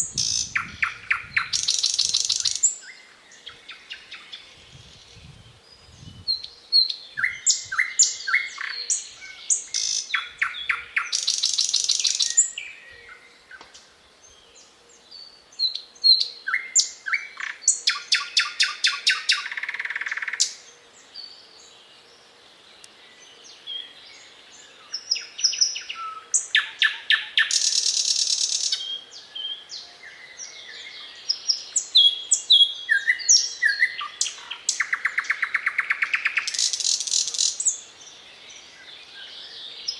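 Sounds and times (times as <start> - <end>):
thrush nightingale singing: 0.0 - 39.9.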